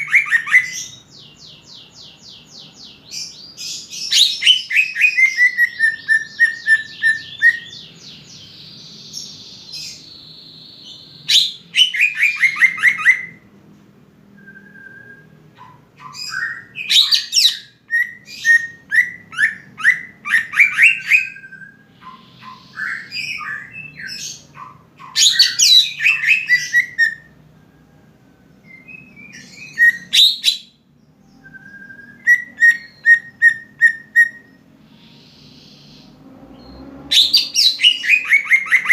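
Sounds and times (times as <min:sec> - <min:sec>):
songbird singing whistled phrases: 0:00.0 - 0:02.1, 0:03.2 - 0:13.4, 0:16.0 - 0:27.4, 0:28.6 - 0:38.9.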